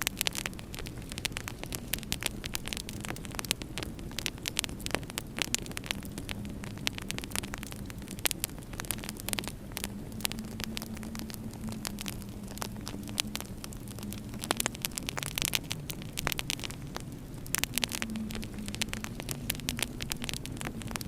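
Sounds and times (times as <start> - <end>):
faint hum: 0.0 - 21.0
low rumble: 0.0 - 21.0
wood fire crackling: 0.0 - 21.0.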